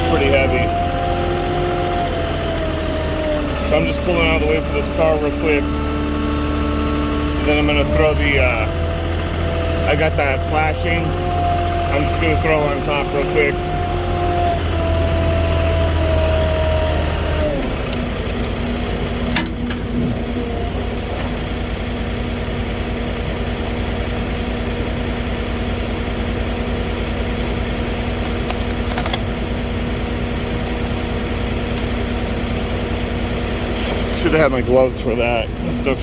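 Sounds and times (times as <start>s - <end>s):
engine revving then idling: 0.0s - 36.0s.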